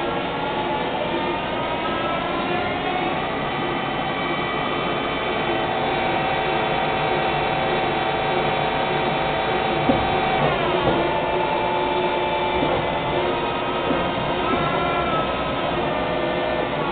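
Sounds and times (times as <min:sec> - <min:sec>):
lathe machine whine: 0:00.0 - 0:16.9.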